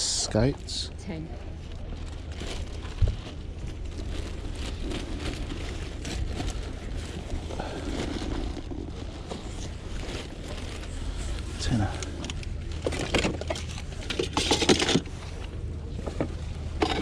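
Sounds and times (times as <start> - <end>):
low rumble: 0.8 - 17.0.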